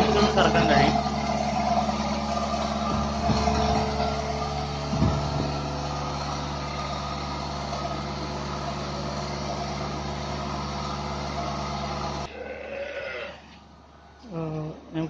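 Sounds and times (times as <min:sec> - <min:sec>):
vacuum pump humming: 0:00.0 - 0:12.3.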